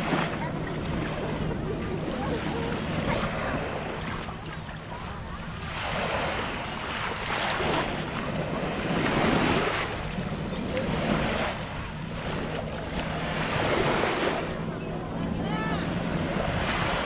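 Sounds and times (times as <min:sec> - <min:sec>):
small waves washing on sand: 0:00.0 - 0:17.0.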